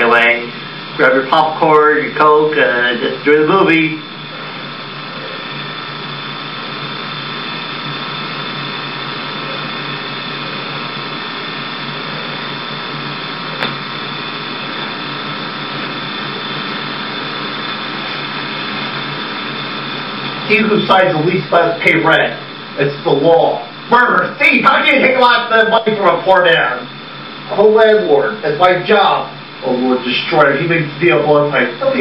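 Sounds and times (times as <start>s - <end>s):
steady tones: 0.0s - 32.0s
tape hum and hiss: 0.0s - 32.0s.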